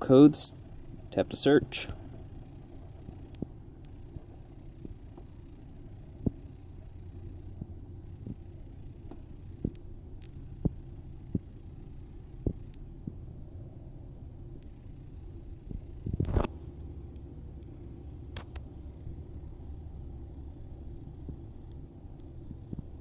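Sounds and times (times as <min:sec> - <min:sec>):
low hum inside truck cab: 0:00.0 - 0:23.0.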